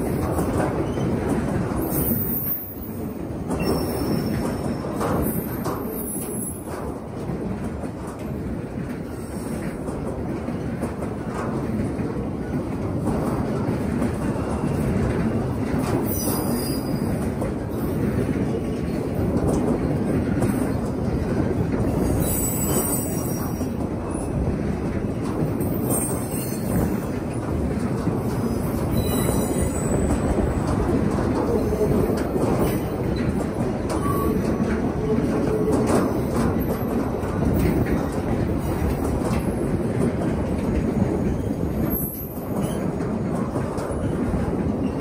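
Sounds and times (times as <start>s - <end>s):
steel wheels rumbling on rail: 0.0s - 45.0s.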